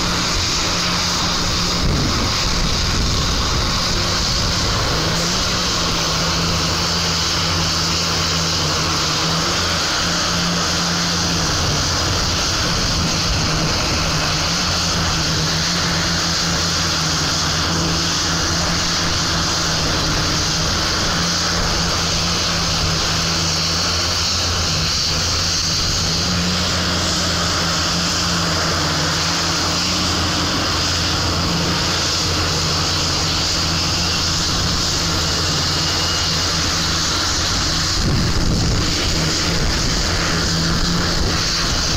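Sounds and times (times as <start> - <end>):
heavy machine engine droning: 0.0 - 41.9.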